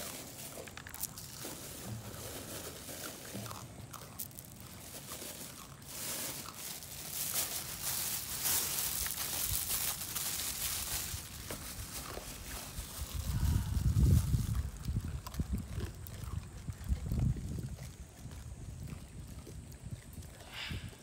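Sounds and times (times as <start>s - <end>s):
plastic bag rustling: 0.0s - 17.6s
monkeys eating with crunches: 0.0s - 21.0s.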